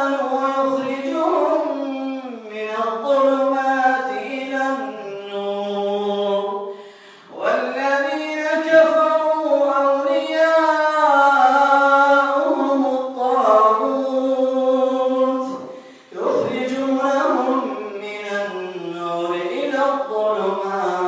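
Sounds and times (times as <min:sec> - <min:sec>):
man chanting melodic recitation: 0:00.0 - 0:21.0.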